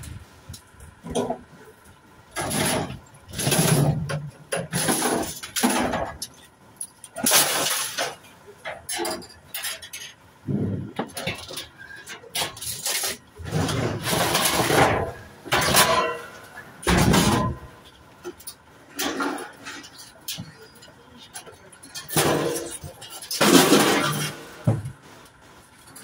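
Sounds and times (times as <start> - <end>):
scrap metal clattering and crashing: 1.0 - 1.7, 2.3 - 26.0.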